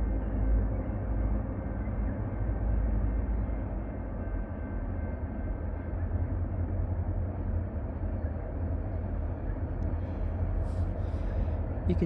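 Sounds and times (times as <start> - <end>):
distant diesel locomotive rumble: 0.0 - 12.0.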